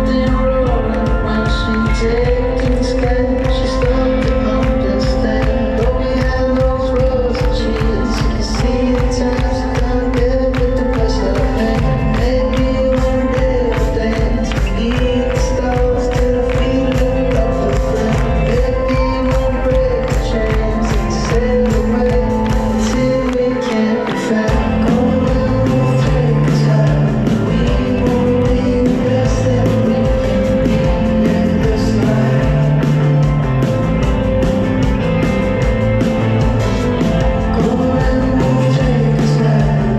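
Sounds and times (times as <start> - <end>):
bass line: 0.0 - 39.9
steady drum beat: 0.0 - 39.9.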